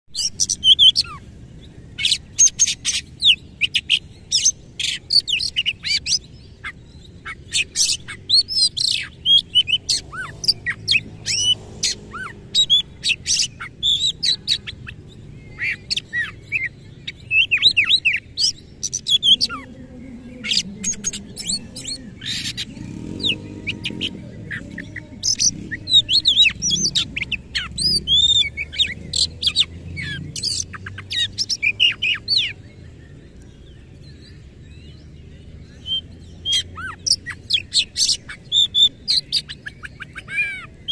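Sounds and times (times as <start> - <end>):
songbird singing: 0.1 - 40.9.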